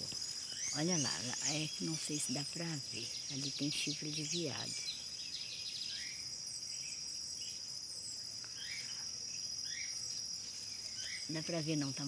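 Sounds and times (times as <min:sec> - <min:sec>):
bird chirps: 0:00.0 - 0:12.0
high-pitched insect drone: 0:00.0 - 0:12.0.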